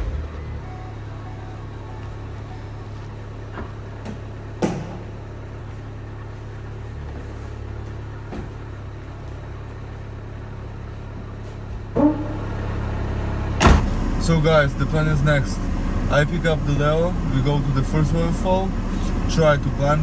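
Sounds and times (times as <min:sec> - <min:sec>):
car driving drone: 0:00.0 - 0:20.0.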